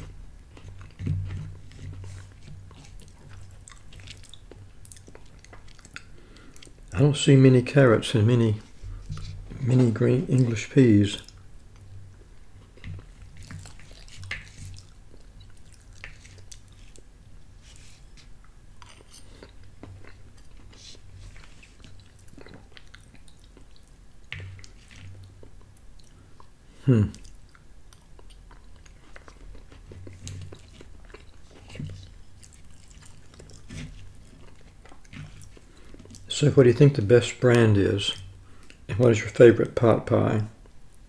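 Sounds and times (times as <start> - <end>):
man chewing food: 0.0 - 7.0, 8.6 - 10.6, 11.2 - 38.9, 40.6 - 41.0.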